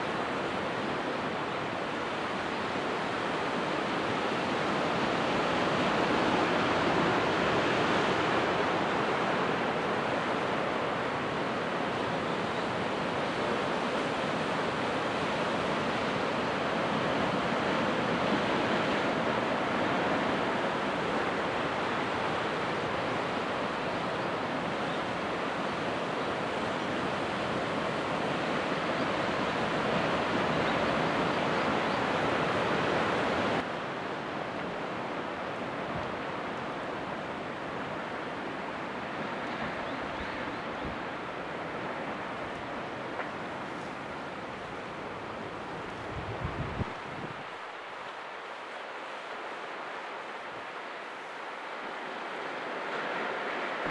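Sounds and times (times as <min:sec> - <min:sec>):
ocean surf washing on rocks: 0:00.0 - 0:53.9.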